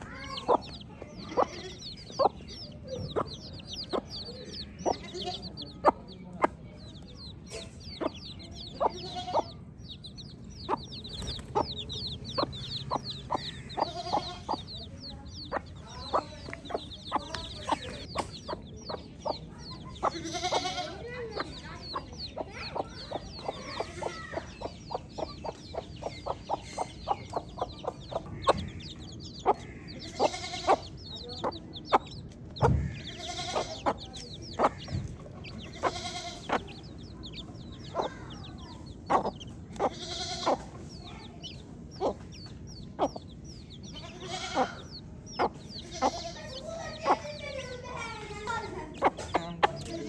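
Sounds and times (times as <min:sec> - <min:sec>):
baby chicks peeping: 0:00.0 - 0:50.0.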